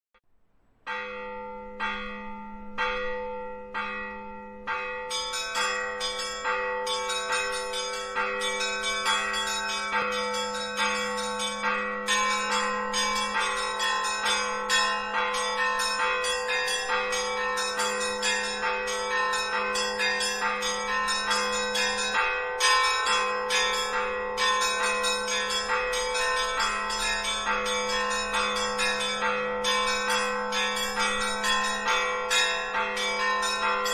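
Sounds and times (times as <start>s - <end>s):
church bells pealing: 0.8s - 33.9s.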